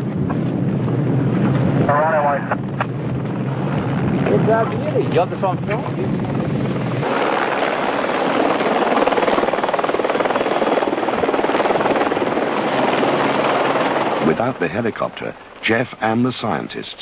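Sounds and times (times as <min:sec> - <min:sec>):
helicopter rotor beating: 0:00.0 - 0:16.7.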